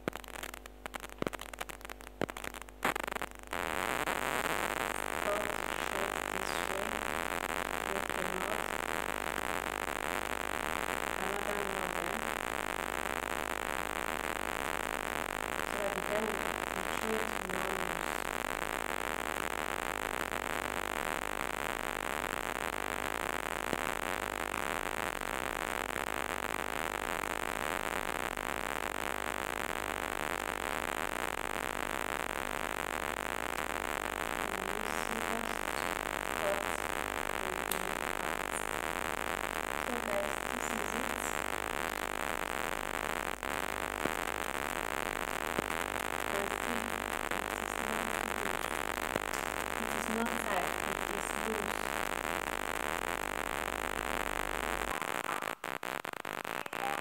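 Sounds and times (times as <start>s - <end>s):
steady background hiss: 0.0s - 57.0s.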